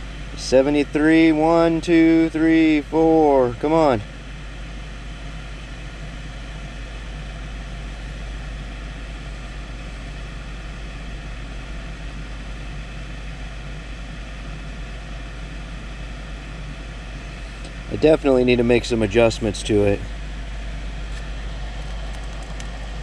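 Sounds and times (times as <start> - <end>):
duct fan whirring: 0.0 - 23.0.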